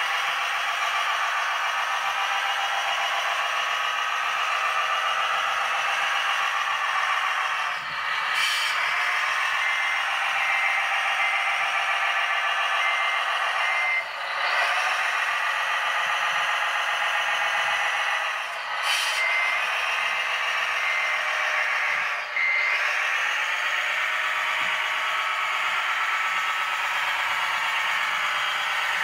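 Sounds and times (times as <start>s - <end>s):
truck engine through small speaker: 0.0s - 29.0s
reversing beeper: 1.4s - 29.0s.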